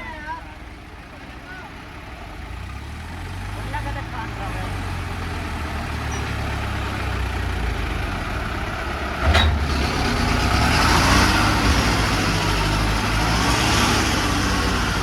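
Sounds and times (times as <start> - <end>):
tractor engine straining: 0.0 - 15.0.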